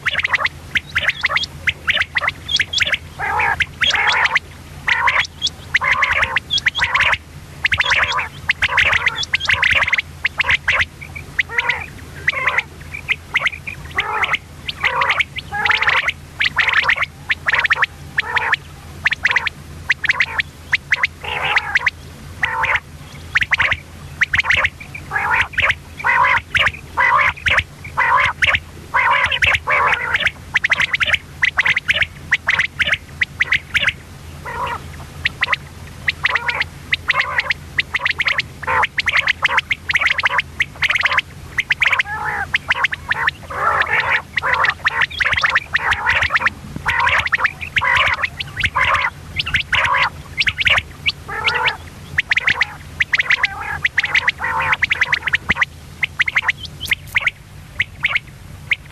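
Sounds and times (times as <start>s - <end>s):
quail calling: 0.0s - 58.9s
steady low hum: 0.0s - 58.9s.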